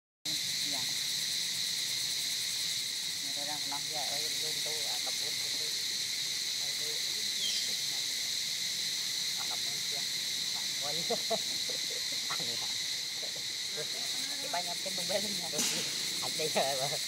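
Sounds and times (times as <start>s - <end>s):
insect chorus drone: 0.3s - 17.0s
short insect calls: 0.3s - 17.0s.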